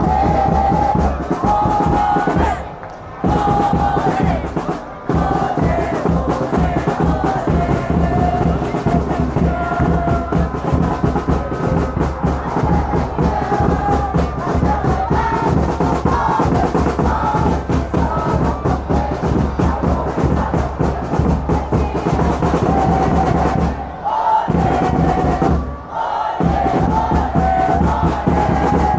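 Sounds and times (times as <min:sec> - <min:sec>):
crowd chanting and singing: 0:00.0 - 0:28.9
drums beating fast: 0:00.0 - 0:28.9.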